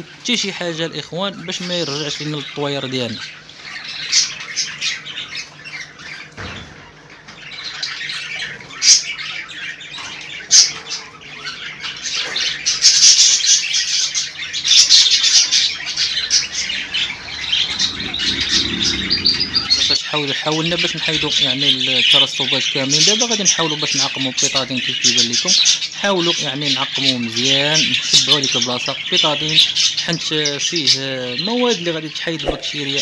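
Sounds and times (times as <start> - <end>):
small birds chirping and squawking: 0.0 - 33.0.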